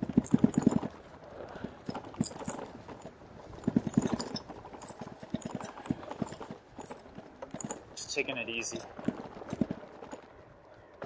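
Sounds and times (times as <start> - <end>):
bike knocking and rattling: 0.0 - 11.0.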